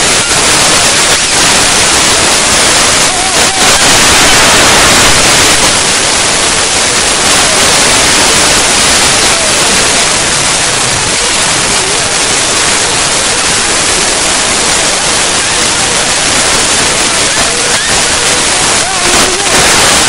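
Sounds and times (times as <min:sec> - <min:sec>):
river rushing in flood: 0:00.0 - 0:20.0.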